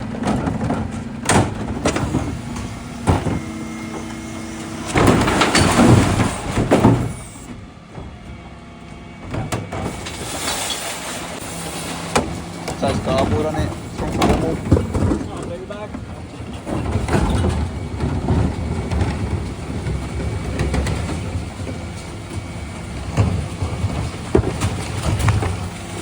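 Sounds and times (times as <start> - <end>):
bin clattering into hopper: 0.0 - 7.4, 9.3 - 15.5, 16.5 - 26.0
refuse truck running: 0.0 - 26.0.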